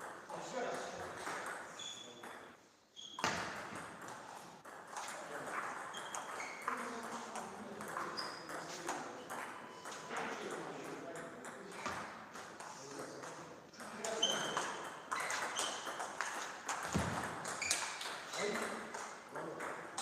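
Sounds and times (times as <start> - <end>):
table tennis balls clicking: 3.6 - 20.0.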